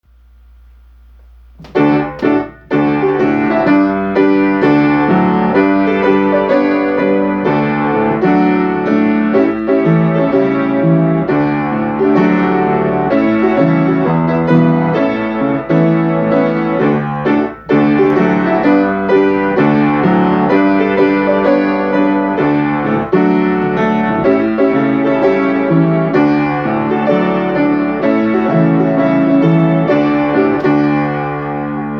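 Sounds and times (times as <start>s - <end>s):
piano playing slow chords: 1.4s - 31.9s.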